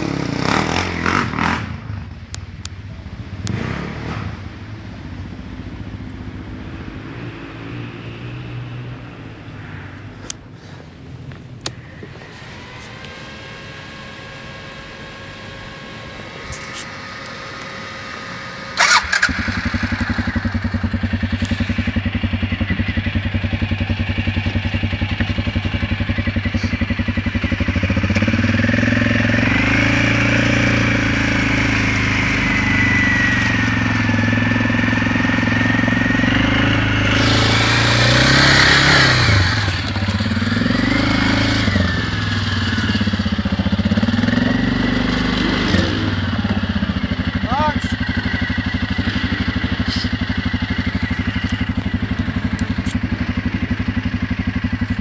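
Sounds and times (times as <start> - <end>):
quad bike engine running: 0.0 - 4.5, 11.6 - 55.0.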